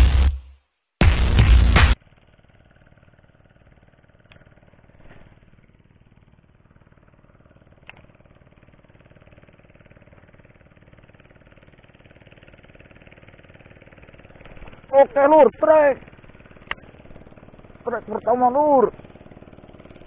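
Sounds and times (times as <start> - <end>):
faint distant engine running: 2.0 - 20.0.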